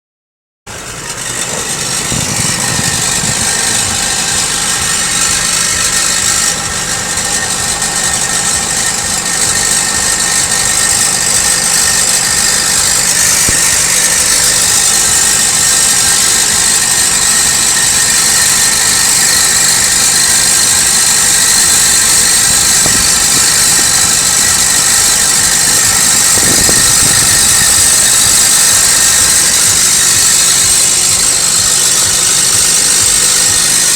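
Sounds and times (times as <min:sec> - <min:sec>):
car engine idling: 0:00.7 - 0:33.9
exhaust rattling: 0:00.7 - 0:33.9.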